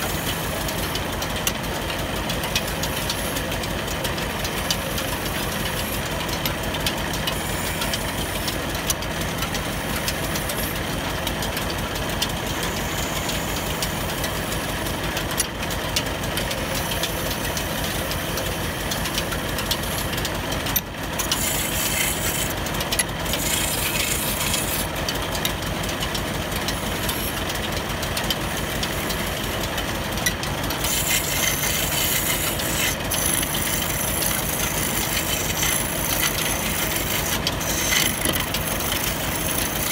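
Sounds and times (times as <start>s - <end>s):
chisel scraping spinning wood: 0.0s - 39.9s
wood lathe rattling: 0.0s - 39.9s.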